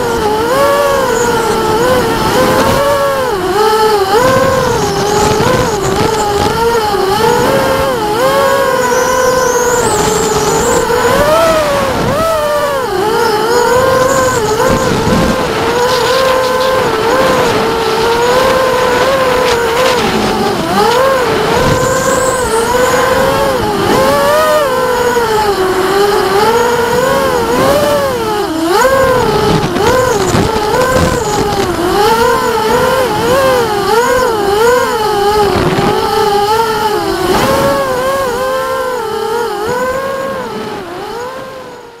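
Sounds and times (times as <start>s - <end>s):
quadcopter propellers whining: 0.0s - 42.0s.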